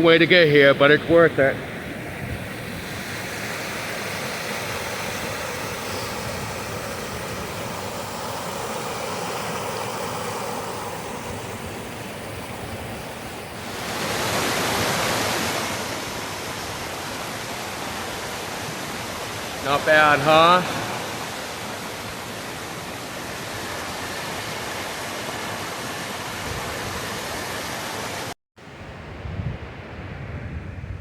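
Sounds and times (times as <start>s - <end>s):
waterfall rushing: 2.8s - 28.3s.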